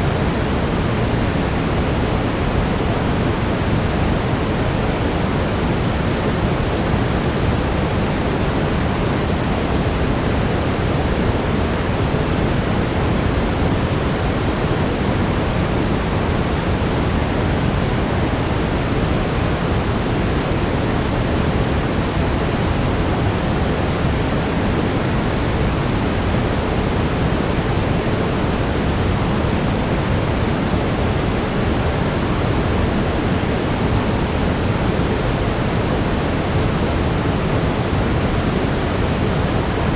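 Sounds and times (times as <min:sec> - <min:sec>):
deep rushing brown noise: 0:00.0 - 0:39.9.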